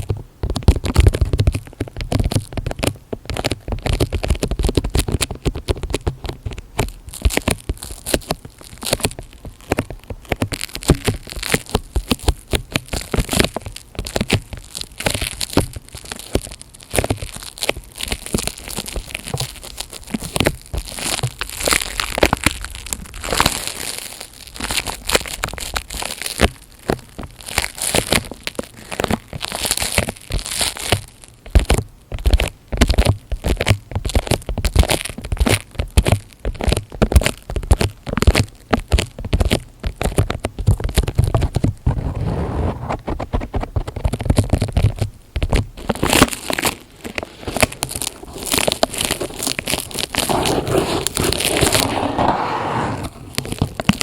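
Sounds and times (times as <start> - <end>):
material crinkling against microphone: 0.0 - 54.0.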